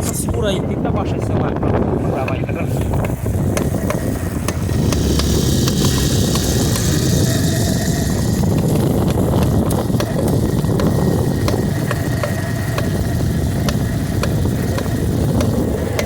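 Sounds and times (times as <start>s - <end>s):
sharp clicks from rear wheel: 2.2s - 16.0s
motorcycle engine running: 2.8s - 16.0s.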